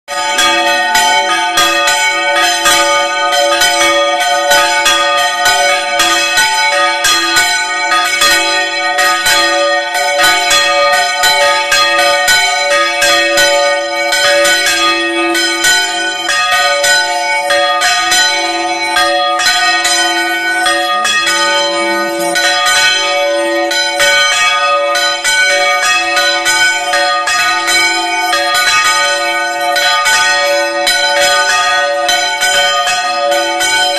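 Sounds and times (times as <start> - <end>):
church bells pealing: 0.1 - 33.9.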